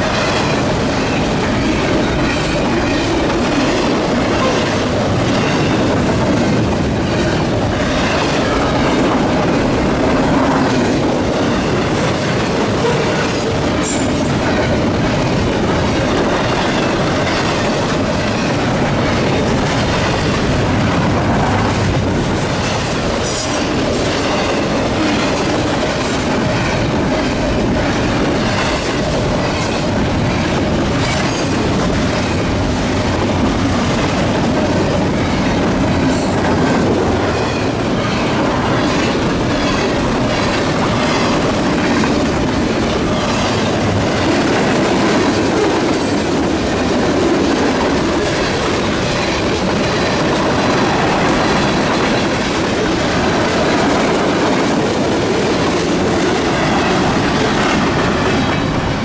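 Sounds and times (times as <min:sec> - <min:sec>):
freight train rumble: 0:00.0 - 0:59.0.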